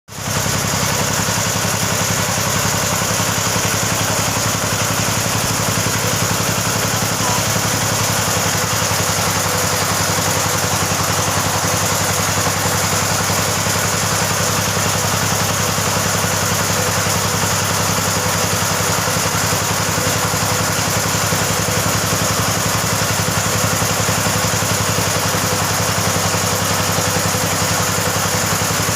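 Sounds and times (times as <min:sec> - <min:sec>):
drilling rig engine running: 0:00.1 - 0:28.9.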